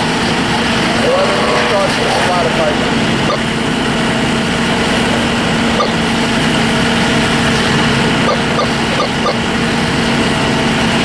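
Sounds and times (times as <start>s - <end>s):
diesel engines humming: 0.0s - 11.0s.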